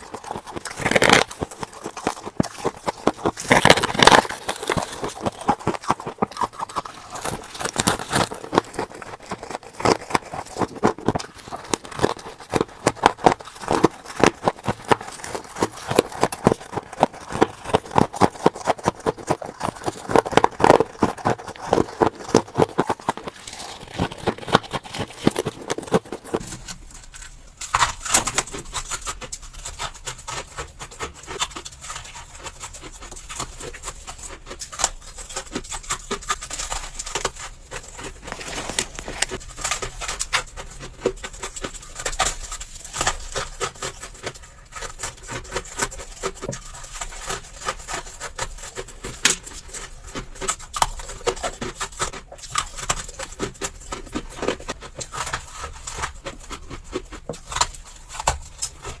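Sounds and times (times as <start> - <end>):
ice being crunched and chewed: 0.0 - 59.0.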